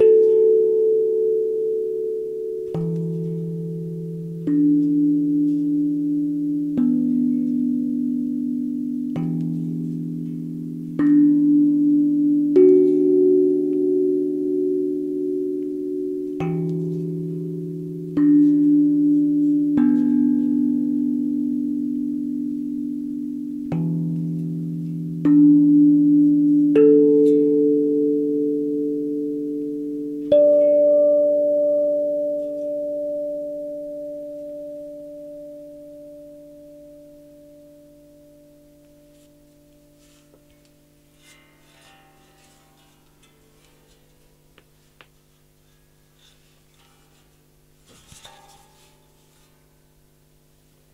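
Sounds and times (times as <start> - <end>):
steel tongue drum notes: 0.0 - 50.9.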